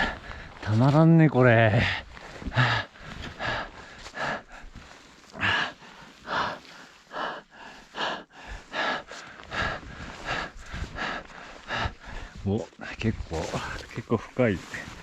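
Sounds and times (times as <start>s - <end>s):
heavy rhythmic breathing: 0.0s - 0.9s, 1.7s - 13.8s.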